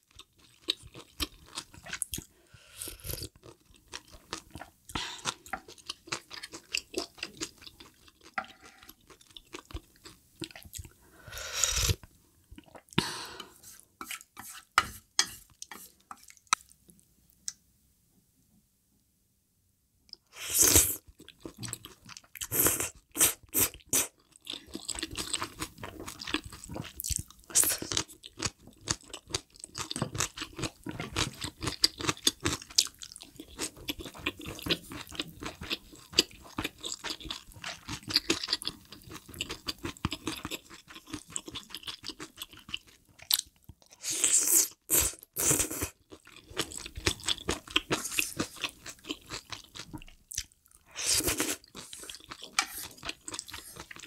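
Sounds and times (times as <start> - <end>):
wet chewing and crunching: 0.0 - 2.3, 2.9 - 11.0, 21.0 - 54.0.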